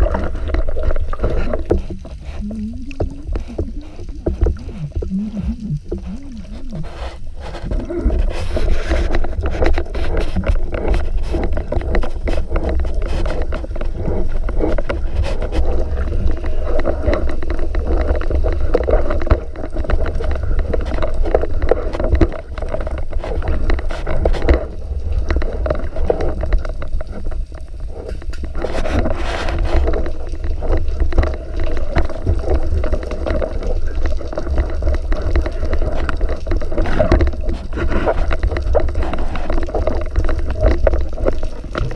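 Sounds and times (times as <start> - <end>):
muffled underwater rush: 0.0 - 41.9
small underwater clicks and crackles: 0.0 - 41.9.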